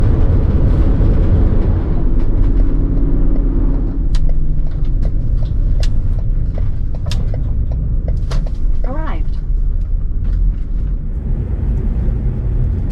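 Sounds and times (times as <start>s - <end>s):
sharp clicks and ticks: 0.0s - 11.1s
low road rumble: 0.0s - 12.9s.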